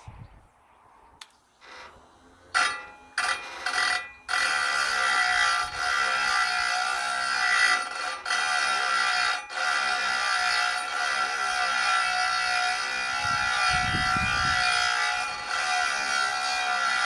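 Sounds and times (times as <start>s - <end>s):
grinding wheel grinding metal: 1.6s - 17.0s.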